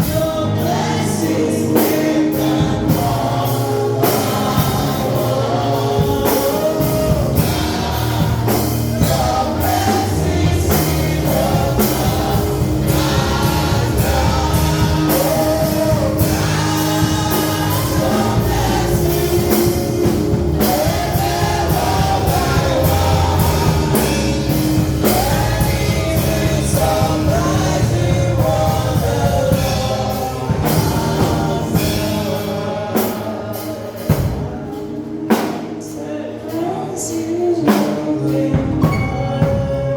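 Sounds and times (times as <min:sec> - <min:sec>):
steady drum beat: 0:00.0 - 0:34.7
gospel singing over a band: 0:00.0 - 0:39.9.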